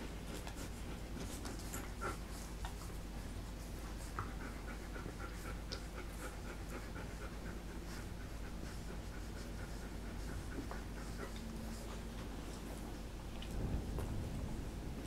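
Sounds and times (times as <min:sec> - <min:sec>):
dogs breathing: 0:00.2 - 0:13.2
puppies suckling: 0:00.3 - 0:12.8.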